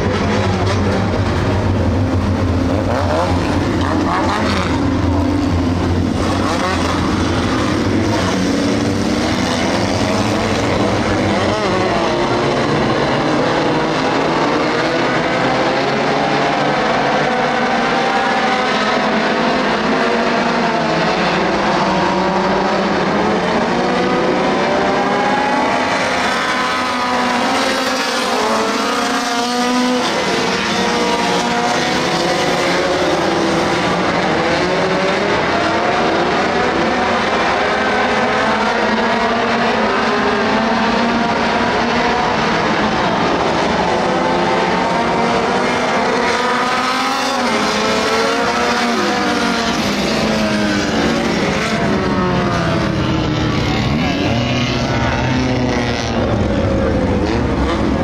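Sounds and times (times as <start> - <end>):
stock car engines racing: 0.0 - 58.0.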